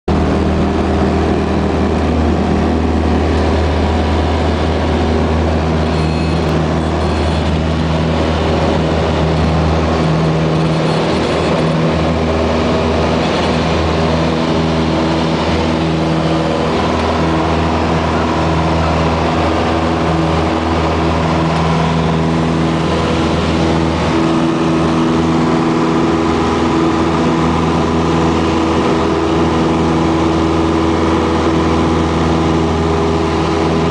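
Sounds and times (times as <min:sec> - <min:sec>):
airplane engine and propeller drone: 0:00.1 - 0:33.9.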